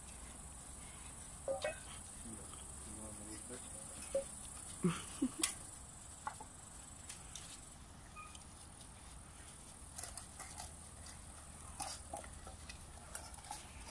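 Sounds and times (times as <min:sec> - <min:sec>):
puppies eating from metal bowls: 0:00.0 - 0:05.7, 0:06.4 - 0:13.9.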